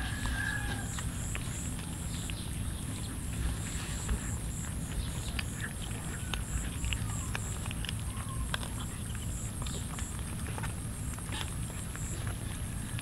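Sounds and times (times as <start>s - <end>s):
cats chewing and licking: 0.0s - 13.0s.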